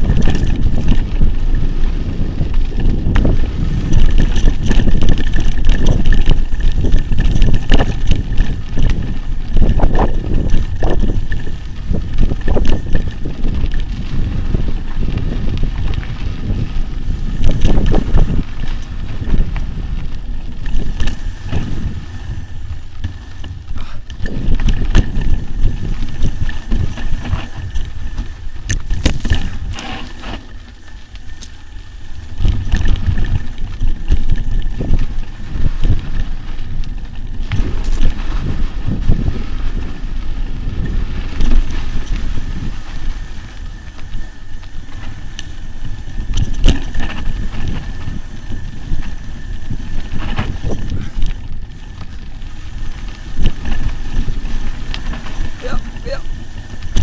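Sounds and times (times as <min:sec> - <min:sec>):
bike knocking and rattling: 0:00.0 - 0:57.0
tyres on dirt: 0:00.0 - 0:57.0
wind on microphone: 0:00.0 - 0:57.0.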